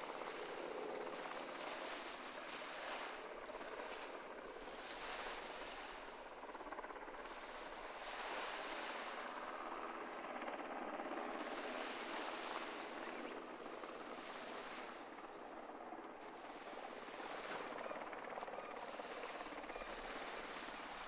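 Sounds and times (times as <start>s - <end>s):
small waves washing onto beach: 0.0s - 15.4s, 16.2s - 21.0s.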